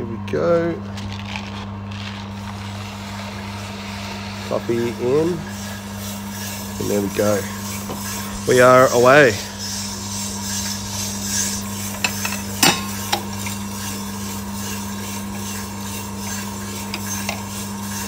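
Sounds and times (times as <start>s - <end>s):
coffee roaster humming: 0.0s - 18.0s.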